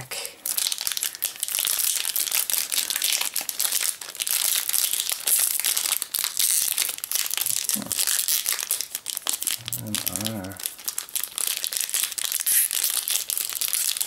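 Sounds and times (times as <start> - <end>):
foil wrapper crinkling: 0.4 - 14.0.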